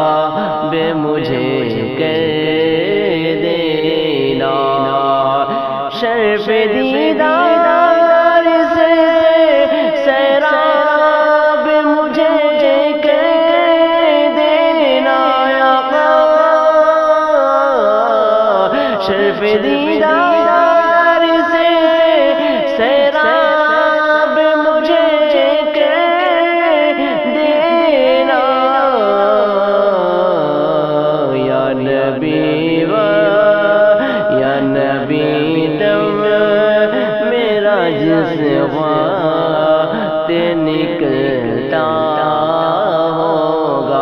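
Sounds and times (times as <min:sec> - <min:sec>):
person singing wordless melody: 0:00.0 - 0:44.0.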